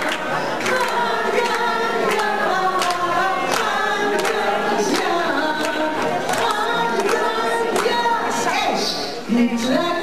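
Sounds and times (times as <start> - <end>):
hands clapping in time: 0.0 - 8.1
group of people singing: 0.0 - 10.0.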